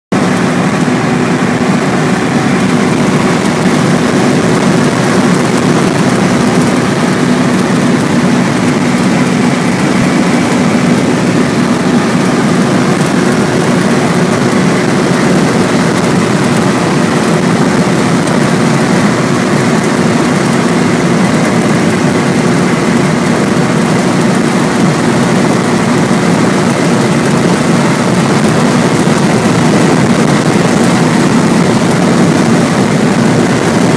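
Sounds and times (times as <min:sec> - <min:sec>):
car engine drone: 0:00.1 - 0:33.9
wind and road noise: 0:00.1 - 0:33.9.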